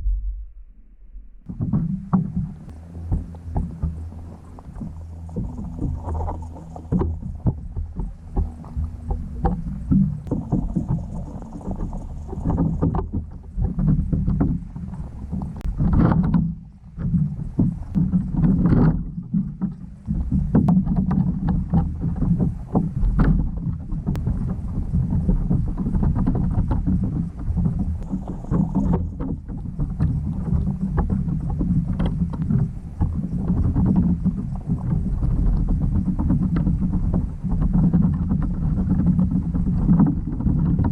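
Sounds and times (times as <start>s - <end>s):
low underwater drone: 0.0s - 40.9s
small underwater clicks and crackles: 1.5s - 40.9s.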